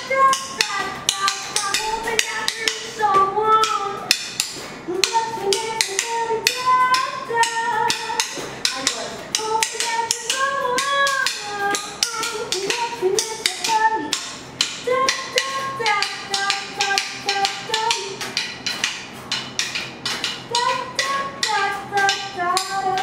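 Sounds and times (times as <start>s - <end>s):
woman singing: 0.0s - 4.2s, 4.9s - 18.4s, 20.5s - 23.0s
drumsticks tapping rhythm: 0.0s - 23.0s.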